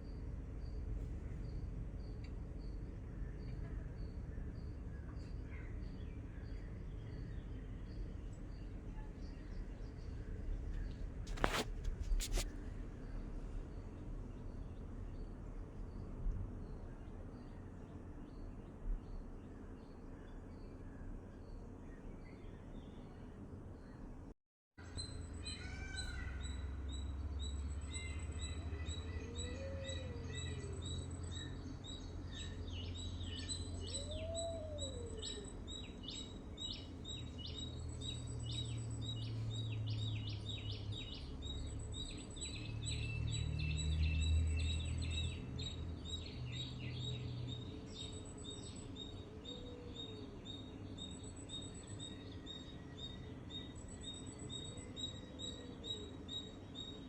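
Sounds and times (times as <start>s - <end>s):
songbirds chirping and calling: 0.0s - 57.0s.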